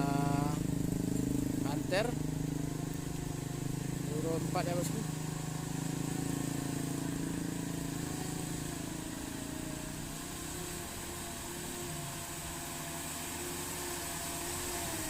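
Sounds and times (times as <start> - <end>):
diesel truck engine pulling uphill: 0.0 - 15.0.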